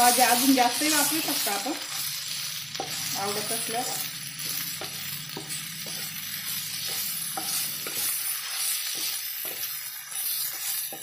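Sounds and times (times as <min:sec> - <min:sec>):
food sizzling in oil: 0:00.0 - 0:11.0
spatula scraping a pan: 0:00.1 - 0:11.0.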